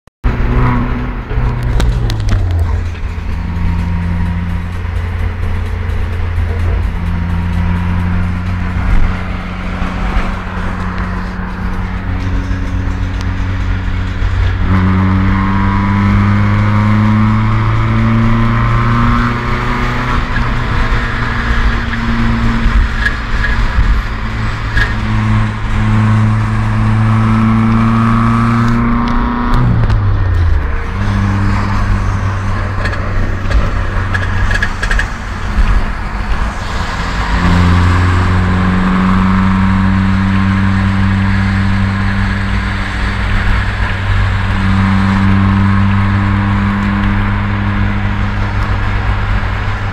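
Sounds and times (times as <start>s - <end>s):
car engine and drivetrain drone: 0.2s - 49.9s.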